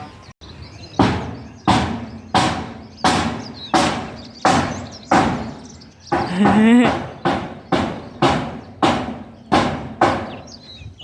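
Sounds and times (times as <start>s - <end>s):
hammering on metal roofing: 0.9s - 10.8s.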